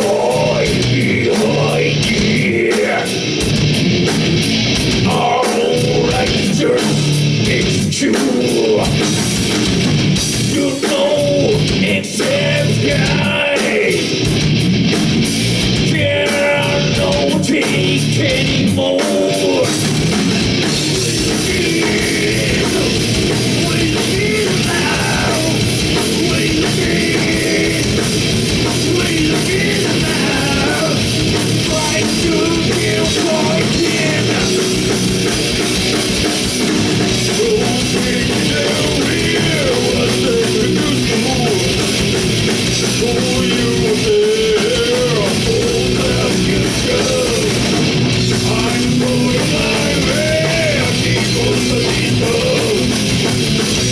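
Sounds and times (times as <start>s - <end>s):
person singing: 0.0s - 3.2s, 5.0s - 9.0s, 10.5s - 14.2s, 15.9s - 19.8s, 20.9s - 35.0s, 37.2s - 41.8s, 42.8s - 53.0s
distorted electric guitars: 0.0s - 53.9s
fast drum kit: 0.0s - 53.9s.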